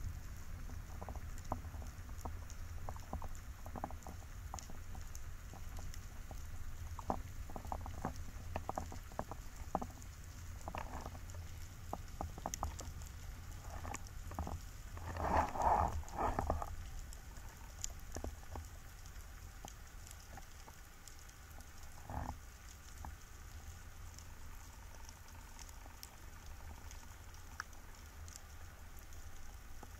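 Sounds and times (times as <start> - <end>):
sharp clicks and crackles: 0.0 - 29.9
underwater low rumble: 0.0 - 29.9.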